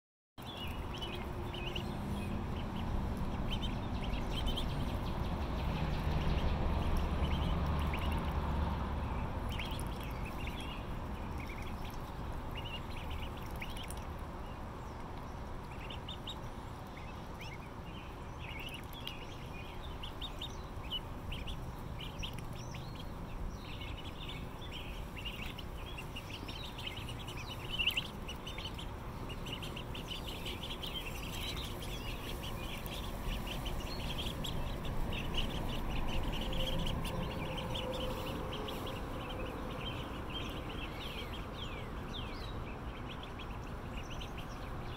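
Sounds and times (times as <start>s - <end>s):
ducklings peeping: 0.4s - 44.9s.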